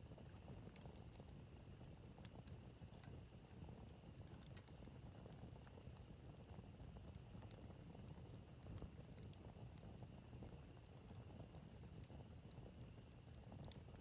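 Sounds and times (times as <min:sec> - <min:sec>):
campfire crackling: 0:00.1 - 0:14.0.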